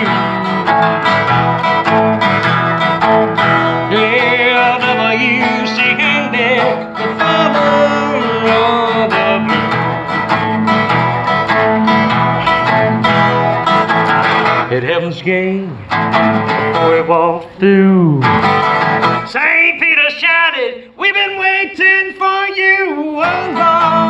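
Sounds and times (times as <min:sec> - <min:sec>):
blues band playing: 0:00.0 - 0:19.7, 0:23.0 - 0:24.0
wavering high lead guitar: 0:00.0 - 0:19.7, 0:20.8 - 0:24.0.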